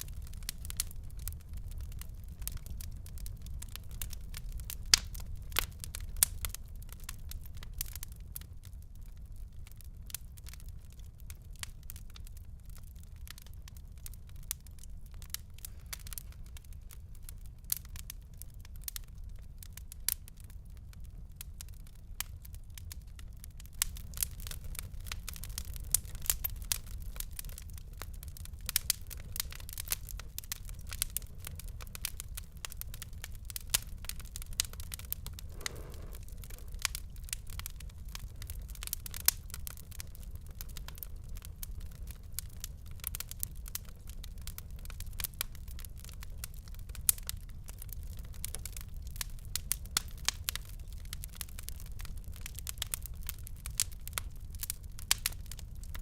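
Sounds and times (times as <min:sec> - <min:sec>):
low rumble of burning: 0:00.0 - 0:56.0
wood fire crackling and popping: 0:00.0 - 0:56.0.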